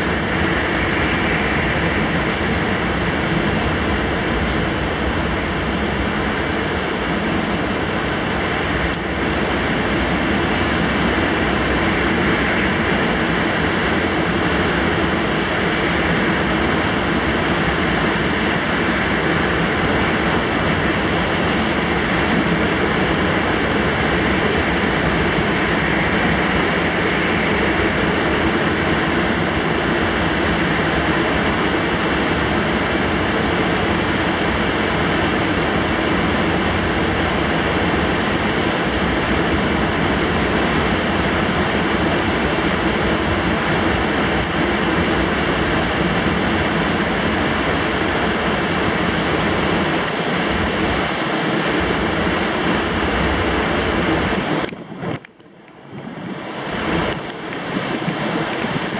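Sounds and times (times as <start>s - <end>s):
heavy driving rain: 0.0s - 58.9s
strong wind roaring: 0.0s - 58.9s.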